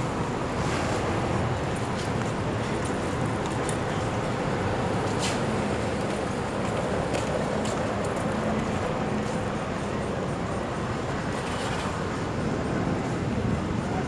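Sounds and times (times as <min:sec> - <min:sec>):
faint engine hum: 0:00.0 - 0:14.0
traffic rumble: 0:00.0 - 0:14.0.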